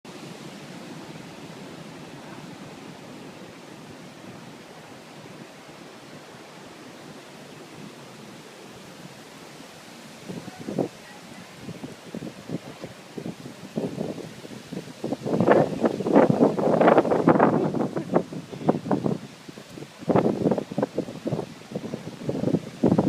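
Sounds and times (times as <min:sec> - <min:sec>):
steady rushing noise: 0:00.1 - 0:23.0.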